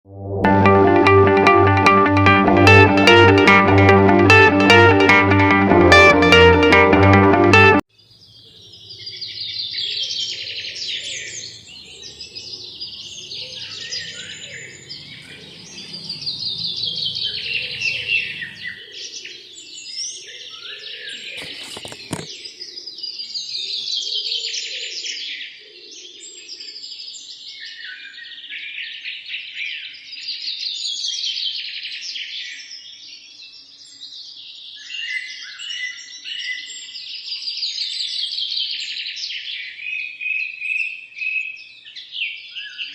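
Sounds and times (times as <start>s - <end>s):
songbirds chirping and singing: 8.0s - 42.9s.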